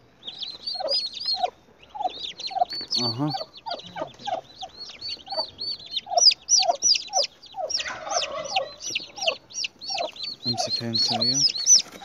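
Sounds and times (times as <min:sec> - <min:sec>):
turkey poults peeping: 0:00.0 - 0:12.0.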